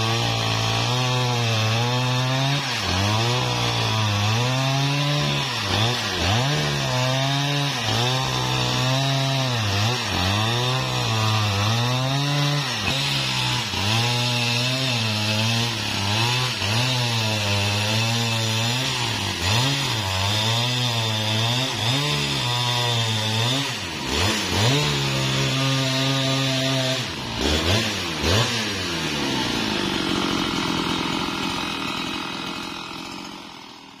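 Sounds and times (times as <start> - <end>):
chainsaw cutting log: 0.0 - 34.0.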